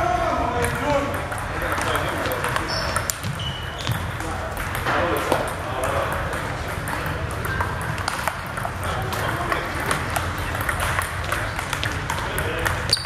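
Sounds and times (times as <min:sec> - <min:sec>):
low hum of hall: 0:00.0 - 0:13.0
table tennis ball clicking: 0:00.6 - 0:13.0.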